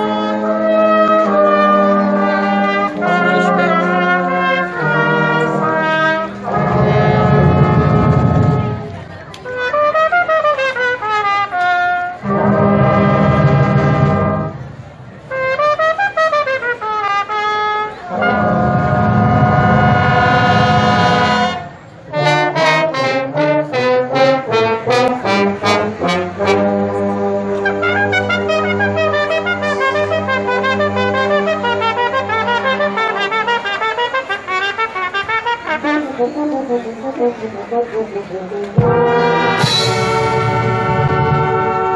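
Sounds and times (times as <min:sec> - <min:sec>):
brass marching band playing: 0:00.0 - 0:41.9.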